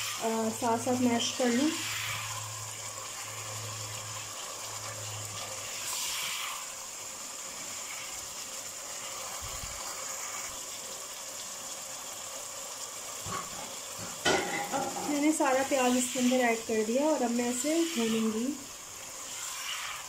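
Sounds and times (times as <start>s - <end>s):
spatula stirring in a pot: 0.0s - 11.8s, 13.1s - 20.0s
food sizzling in a pot: 0.0s - 20.0s.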